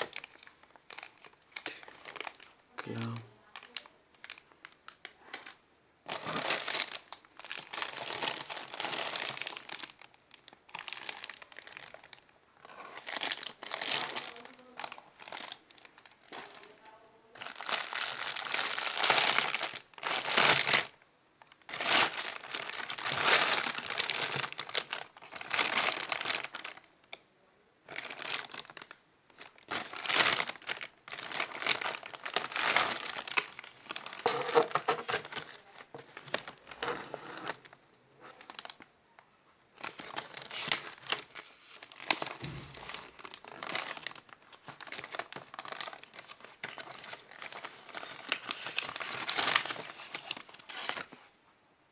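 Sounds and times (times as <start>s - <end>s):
packaging crinkling and rustling: 0.0s - 2.6s, 3.5s - 16.8s, 17.4s - 27.2s, 27.9s - 38.9s, 39.7s - 51.3s.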